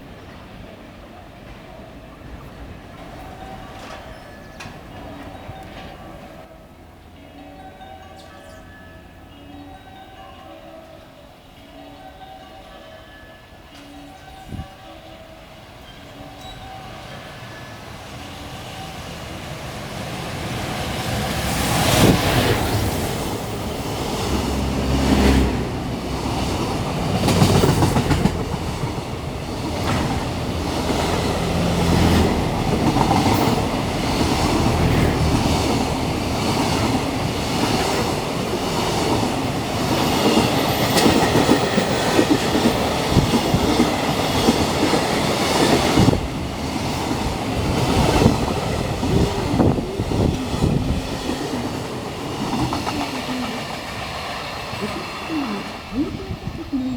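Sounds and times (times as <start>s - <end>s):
wheels clacking over rail joints: 0.0s - 6.7s, 15.8s - 56.5s
freight train passing: 0.0s - 56.9s.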